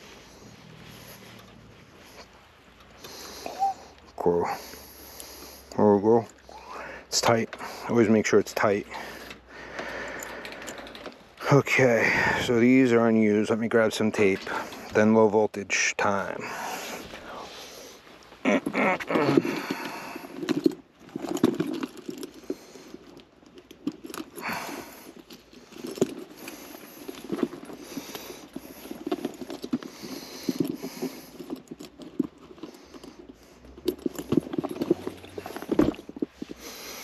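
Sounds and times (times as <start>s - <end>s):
wires rustling: 0.0s - 37.0s.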